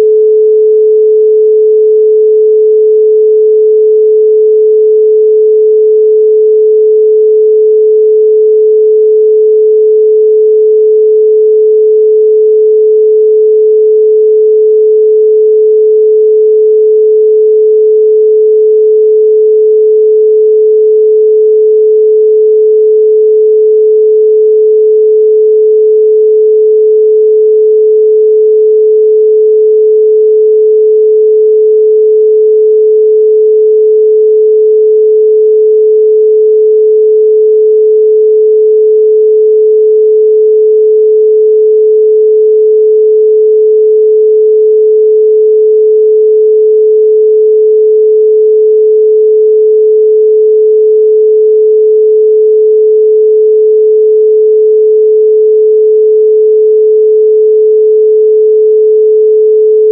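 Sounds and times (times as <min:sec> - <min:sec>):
pure sine tone: 0:00.0 - 0:59.9.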